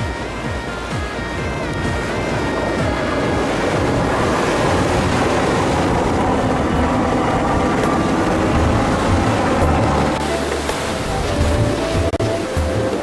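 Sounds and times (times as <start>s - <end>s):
jet ski engine running: 0.0s - 13.0s
rushing water: 0.0s - 13.0s
wind: 0.0s - 13.0s.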